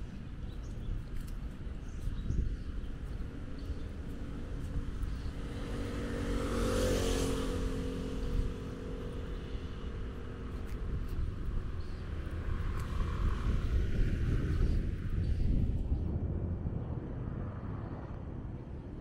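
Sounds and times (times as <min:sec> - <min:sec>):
constant low traffic rumble: 0:00.0 - 0:19.0
vehicle passing: 0:03.2 - 0:18.9.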